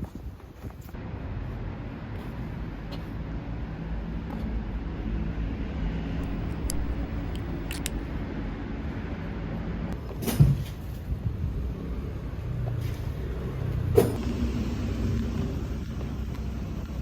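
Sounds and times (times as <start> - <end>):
road vehicle engine rumble: 0.0 - 17.0.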